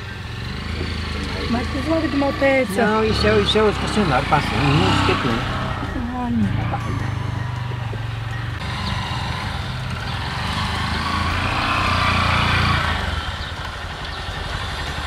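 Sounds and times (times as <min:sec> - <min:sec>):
low engine hum: 0:00.0 - 0:15.0
motorcycle passing by: 0:00.0 - 0:15.0.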